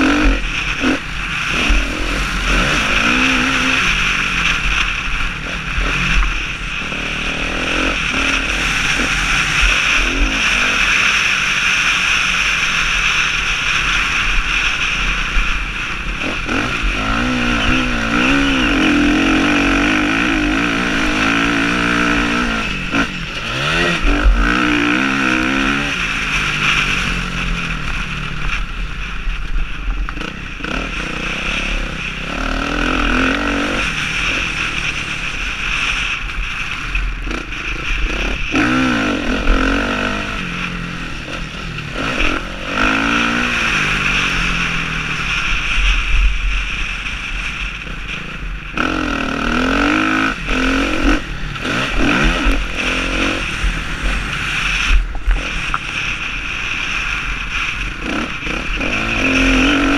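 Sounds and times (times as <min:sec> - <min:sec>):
motocross bike engine revving: 0:00.0 - 0:59.9
steady rushing noise: 0:00.0 - 0:59.9.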